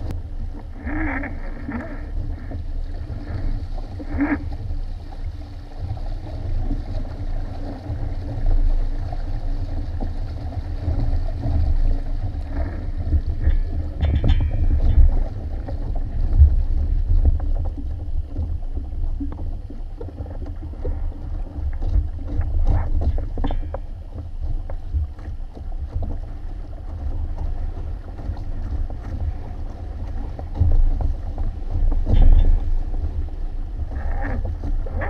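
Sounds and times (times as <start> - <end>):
water slapping against hulls: 0.0 - 35.0.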